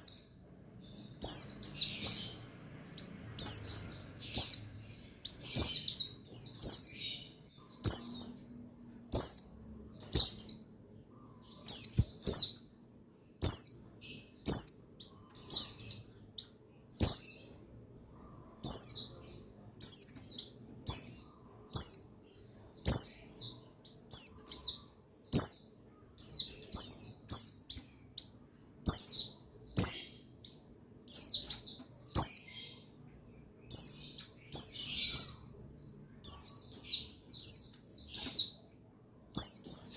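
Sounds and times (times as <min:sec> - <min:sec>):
bird chirping high falling calls: 0:00.0 - 0:38.7, 0:39.3 - 0:39.9.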